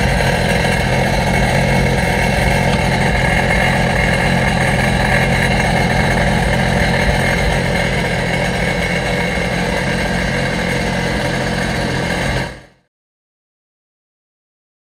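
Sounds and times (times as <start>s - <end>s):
jet ski engine idling: 0.0s - 12.9s.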